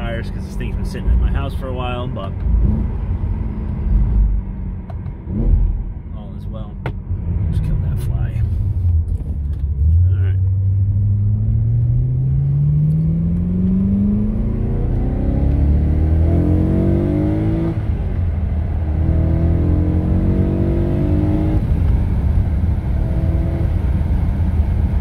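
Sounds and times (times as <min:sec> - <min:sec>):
car engine accelerating: 0:00.0 - 0:06.1, 0:06.8 - 0:25.0.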